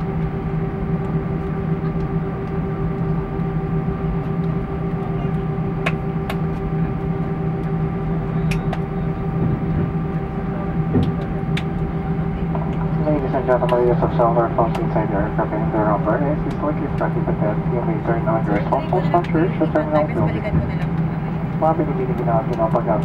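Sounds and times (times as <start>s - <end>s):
aircraft engines idling hum and whine: 0.0s - 23.0s.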